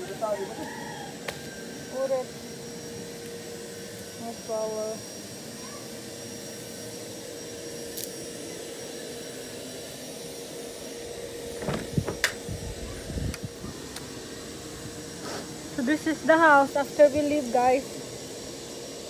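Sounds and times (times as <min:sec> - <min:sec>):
vacuum cleaner motor running: 0:00.0 - 0:19.0.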